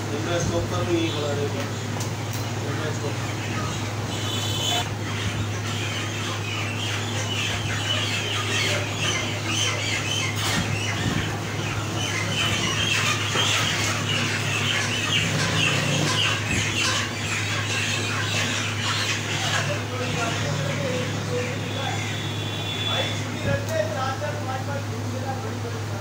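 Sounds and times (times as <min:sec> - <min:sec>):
birds squawking and chirping: 0:00.0 - 0:26.0
steady low hum: 0:00.0 - 0:26.0.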